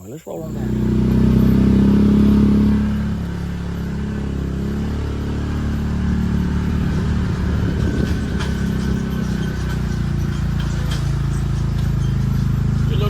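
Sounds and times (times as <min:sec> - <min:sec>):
utility vehicle engine running: 0:00.0 - 0:13.0
rattling: 0:00.4 - 0:13.0.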